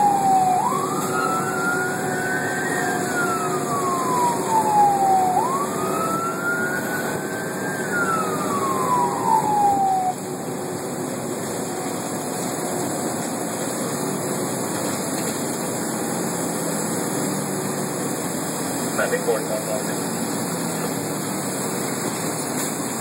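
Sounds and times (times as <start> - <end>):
fire engine siren wailing: 0.0 - 23.0
truck engine and road noise: 0.0 - 23.0.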